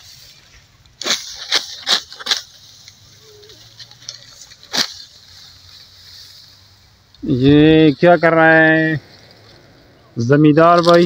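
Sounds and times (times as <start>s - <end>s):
sickle cutting dry wheat stalks: 0.0s - 11.0s.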